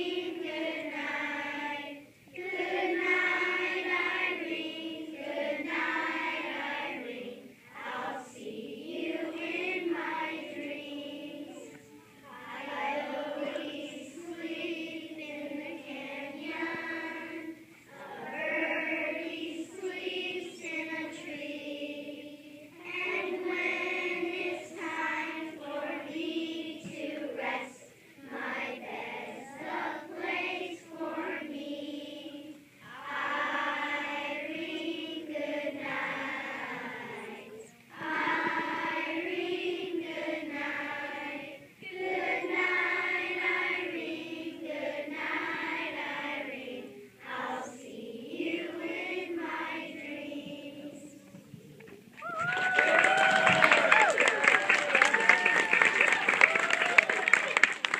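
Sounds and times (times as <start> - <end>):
children singing as a choir: 0.0 - 51.6.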